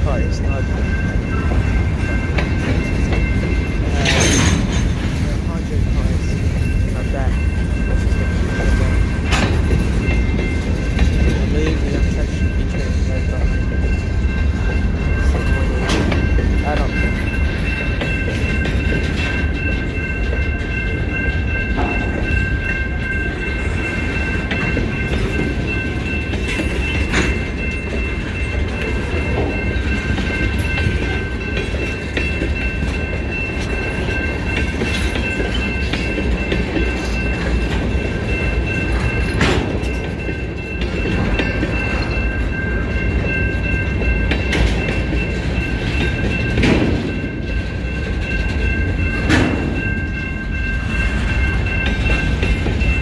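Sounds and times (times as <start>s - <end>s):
freight train rumbling past: 0.0s - 53.0s
high ringing tones: 0.0s - 53.0s
wheels clanking over rail joints: 0.1s - 53.0s.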